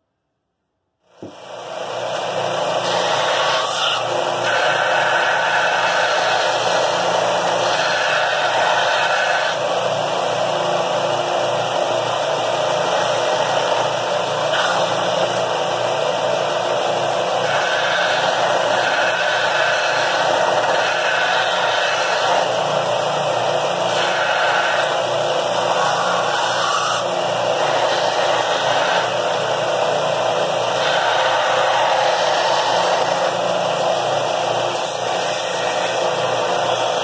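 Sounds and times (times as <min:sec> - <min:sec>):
belt sander grinding metal: 0:02.2 - 0:37.0.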